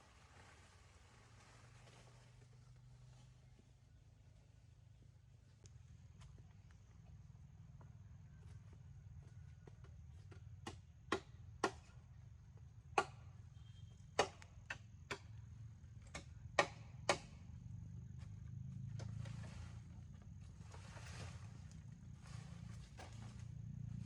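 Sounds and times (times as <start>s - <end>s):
faint low hum: 0.0s - 11.0s, 11.9s - 24.0s.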